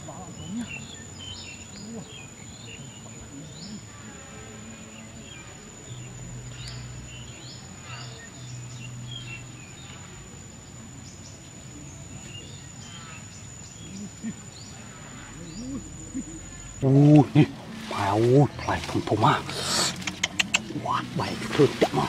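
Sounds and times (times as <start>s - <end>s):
birds chirping: 0.0s - 22.0s
low hum: 0.0s - 22.0s.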